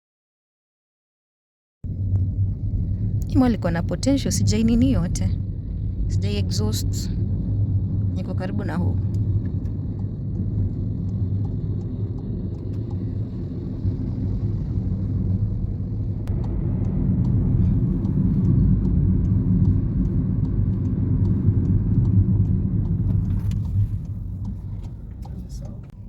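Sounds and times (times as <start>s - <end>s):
road and engine rumble: 1.9s - 26.0s.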